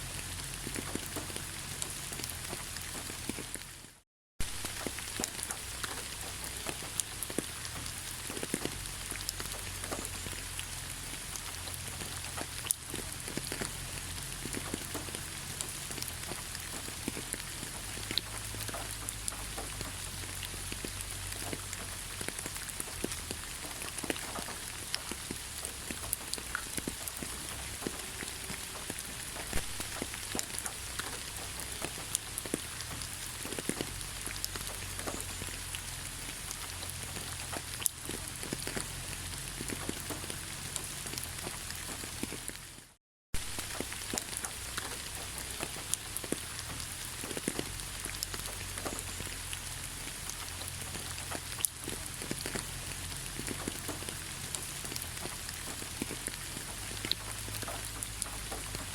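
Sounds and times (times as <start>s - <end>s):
low constant rumble: 0.0s - 58.9s
steady rain: 0.0s - 58.9s.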